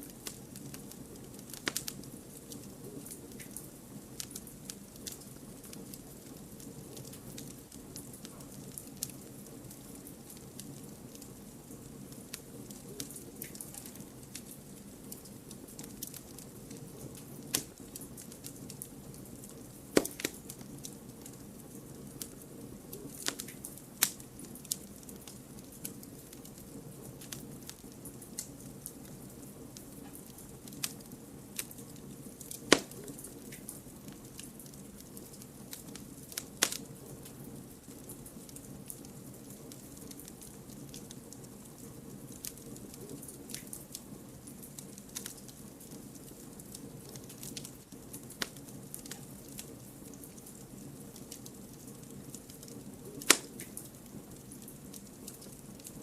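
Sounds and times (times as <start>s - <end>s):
campfire rumble and hiss: 0.0s - 56.0s
fire crackles and pops: 0.0s - 56.0s.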